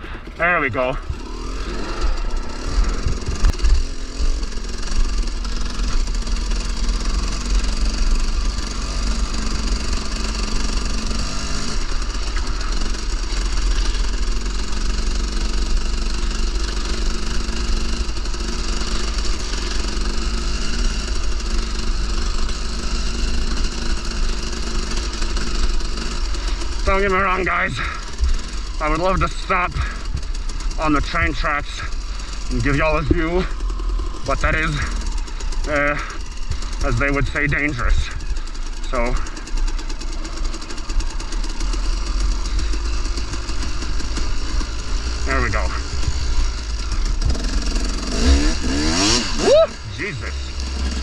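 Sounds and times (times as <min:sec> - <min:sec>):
dirt bike engine running: 0:00.0 - 0:51.0.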